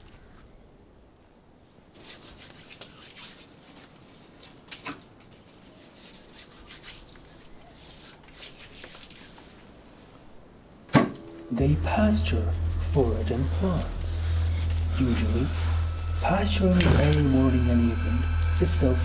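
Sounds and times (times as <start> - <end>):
leaves rustling and crackling: 0.0 - 10.5, 11.4 - 19.0.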